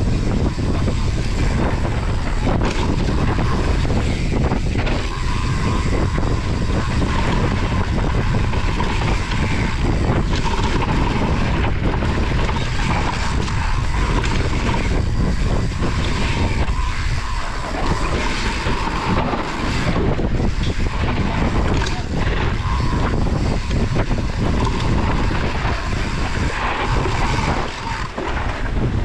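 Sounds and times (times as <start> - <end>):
bike rattling over bumps: 0.0 - 29.0
tyres rolling on dirt: 0.0 - 29.0
wind rumble on microphone: 0.0 - 29.0.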